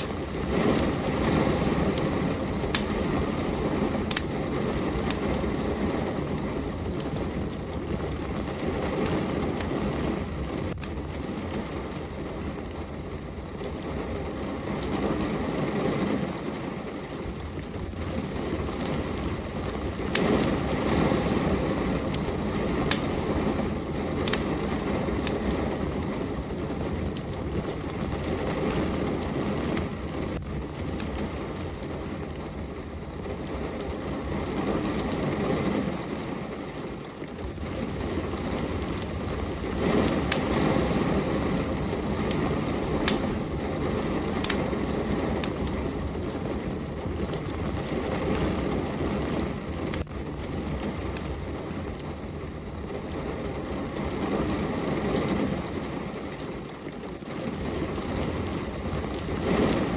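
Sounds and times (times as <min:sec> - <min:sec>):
heavy rain: 0:00.0 - 0:59.9
wood fire crackling: 0:00.0 - 0:59.9.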